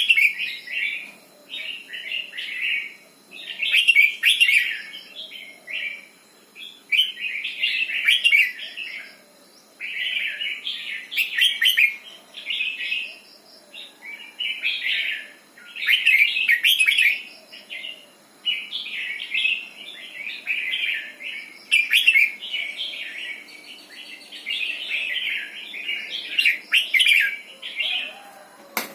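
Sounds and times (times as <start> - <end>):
bird warbling song: 0.0 - 28.4.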